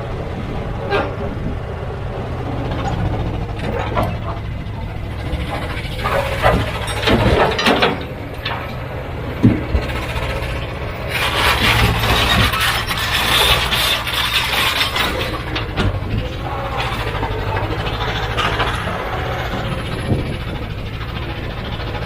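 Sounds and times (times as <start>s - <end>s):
diesel machinery running: 0.0s - 22.0s
harsh grinding and scraping: 0.0s - 22.0s
metal clanks and knocks: 2.6s - 22.0s.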